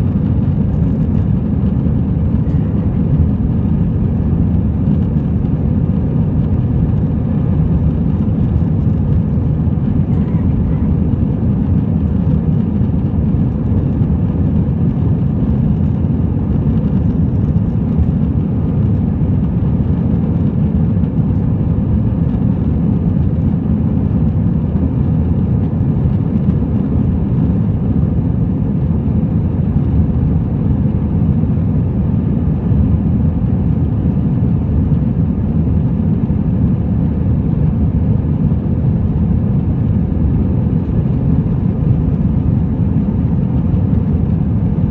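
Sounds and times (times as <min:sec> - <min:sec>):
jet engine cabin rumble: 0:00.0 - 0:44.9.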